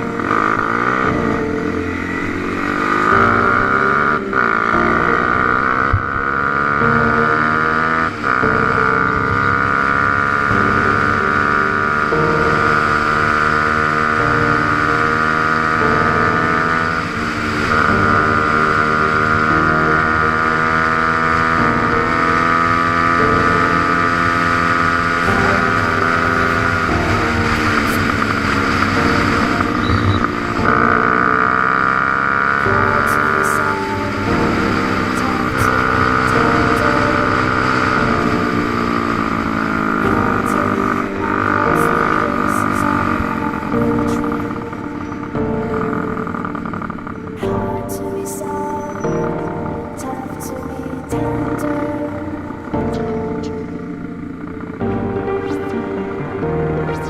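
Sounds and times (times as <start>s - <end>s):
pit bike engine revving: 0.0s - 48.0s, 48.8s - 57.0s.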